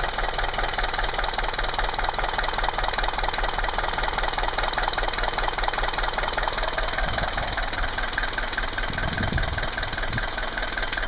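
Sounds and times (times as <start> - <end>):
diesel engine idling with clatter: 0.0 - 11.0.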